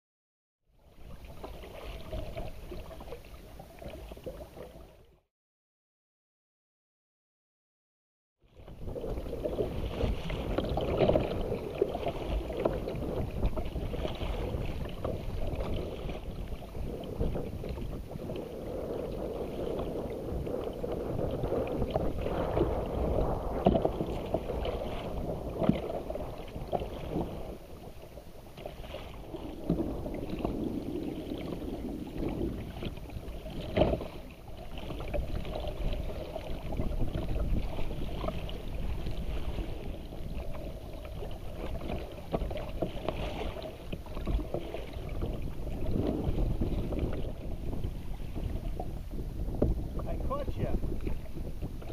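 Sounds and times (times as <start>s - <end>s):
waves splashing against kayak: 0.8s - 5.2s, 8.5s - 51.9s
wind on microphone: 8.5s - 51.9s.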